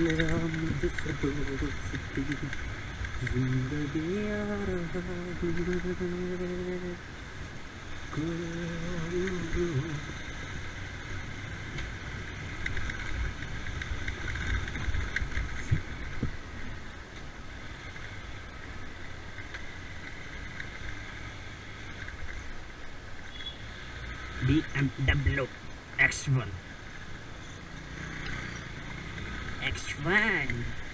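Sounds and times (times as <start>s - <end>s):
motorbike engine and wind rumble: 0.0s - 30.9s.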